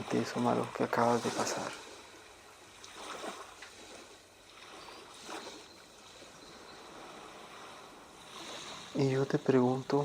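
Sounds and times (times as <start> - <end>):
waves washing ashore: 0.0 - 10.0.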